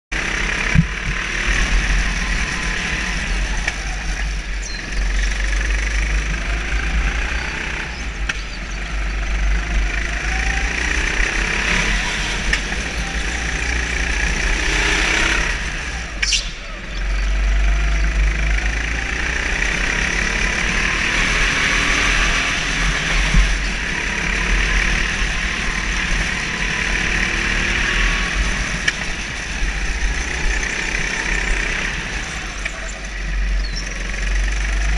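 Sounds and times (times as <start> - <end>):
go-kart engine running: 0.1 - 34.9.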